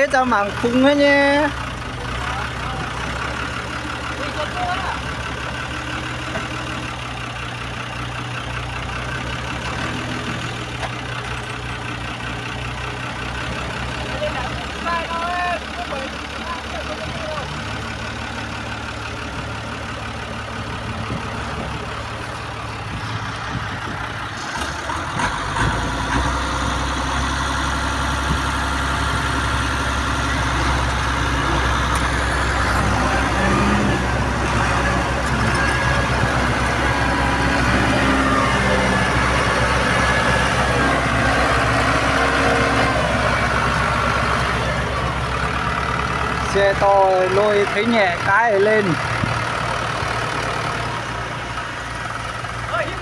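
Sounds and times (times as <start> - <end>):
tractor diesel engines running: 0.0 - 53.0.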